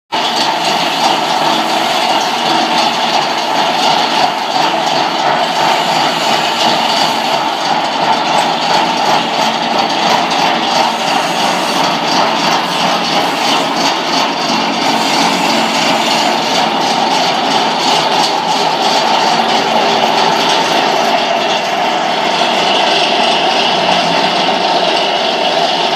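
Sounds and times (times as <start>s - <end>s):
vibrating feeder mechanical hum: 0.2s - 25.9s.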